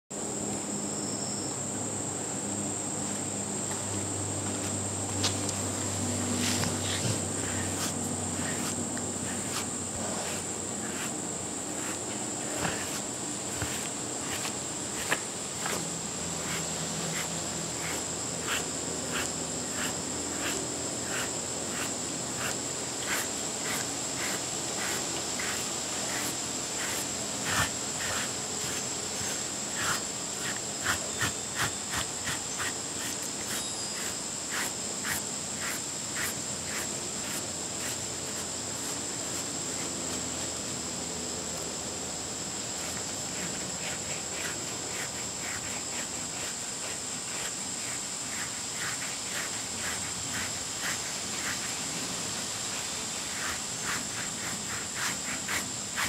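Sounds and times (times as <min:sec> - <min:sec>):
high-pitched insect trill: 0:00.2 - 0:56.0
brush rasping through dog fur: 0:04.5 - 0:40.8, 0:42.6 - 0:56.0.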